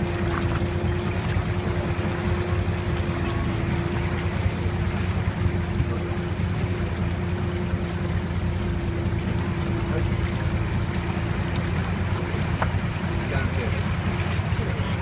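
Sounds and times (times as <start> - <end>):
motor running: 0.0 - 15.0.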